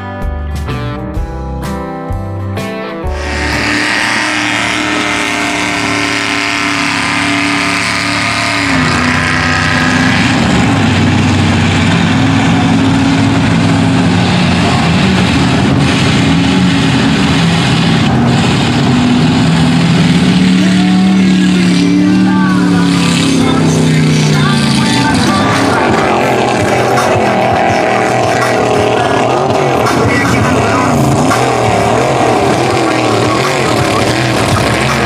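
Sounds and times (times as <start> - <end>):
truck engines revving: 3.1 - 35.0.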